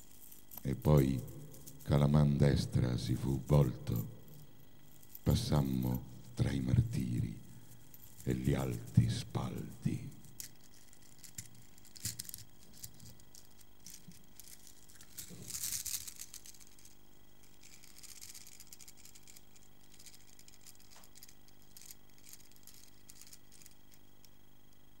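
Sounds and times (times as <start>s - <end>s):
objects clicking and rustling: 3.4s - 6.4s, 7.0s - 24.8s.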